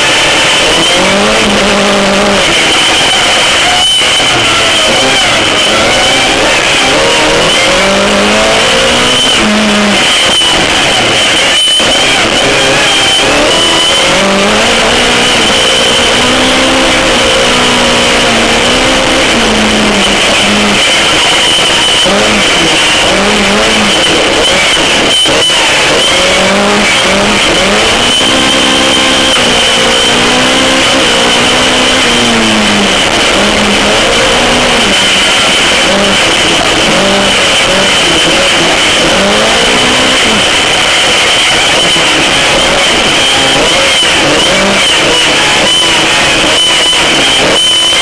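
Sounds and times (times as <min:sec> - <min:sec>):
race car engine revving: 0:00.0 - 0:48.0
steady high whine: 0:00.0 - 0:48.0.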